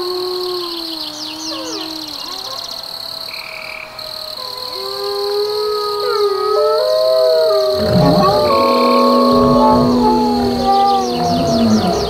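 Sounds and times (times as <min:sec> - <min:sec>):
wolves howling: 0:00.0 - 0:02.7, 0:04.4 - 0:12.0
high insect drone: 0:01.0 - 0:12.0.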